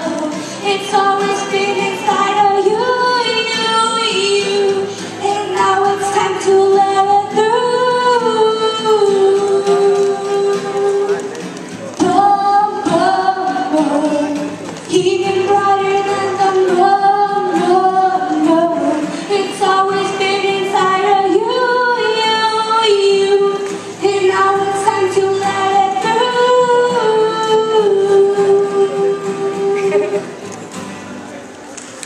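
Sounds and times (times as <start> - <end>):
girl singing long notes: 0.0 - 11.4, 12.0 - 30.3
music: 0.0 - 32.0.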